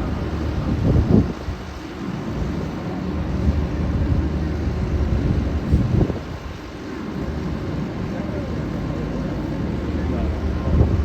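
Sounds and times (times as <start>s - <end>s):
jet engines rumbling overhead: 0.0s - 11.0s.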